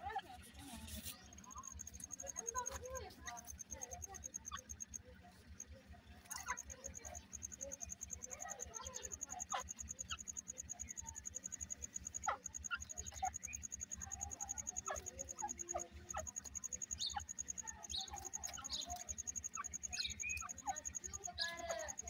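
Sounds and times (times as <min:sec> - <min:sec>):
birds chirping and peeping: 0:00.0 - 0:22.0.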